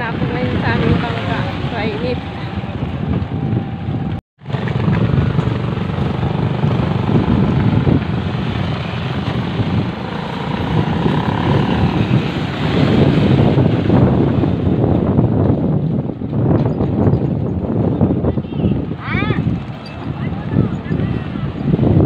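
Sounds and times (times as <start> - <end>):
motorcycles running: 0.0 - 22.0
wind rumbling on microphone: 0.0 - 22.0.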